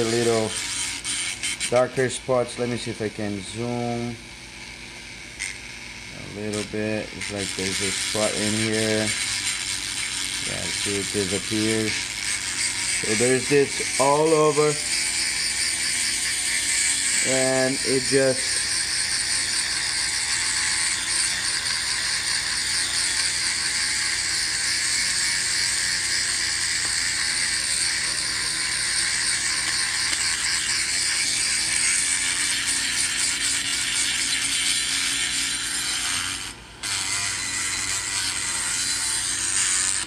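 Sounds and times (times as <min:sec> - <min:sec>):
rotary tool grinding metal: 0:00.0 - 0:40.0.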